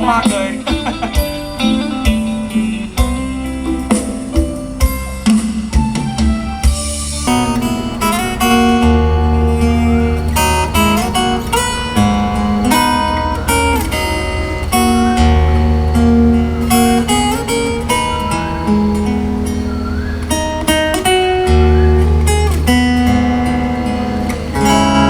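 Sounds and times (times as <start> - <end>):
deep bass notes: 0.0 - 25.0
plucked and strummed guitar: 0.0 - 25.0.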